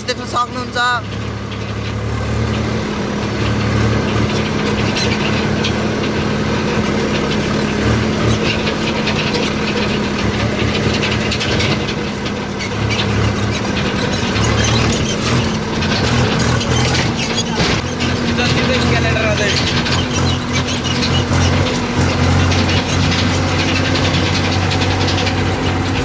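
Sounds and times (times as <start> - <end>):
rattling clatter: 0.0 - 26.0
tractor diesel engine drone: 0.0 - 26.0.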